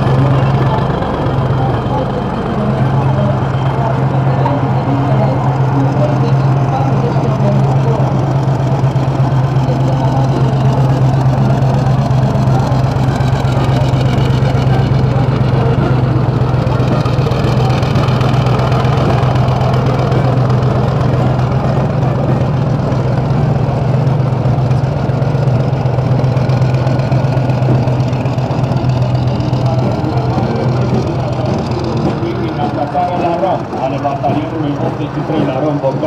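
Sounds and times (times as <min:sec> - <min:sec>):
tank diesel engine humming: 0:00.0 - 0:36.0.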